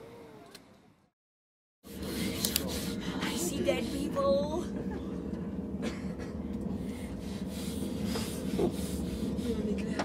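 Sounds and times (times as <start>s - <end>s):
passenger train hum: 1.9s - 10.0s.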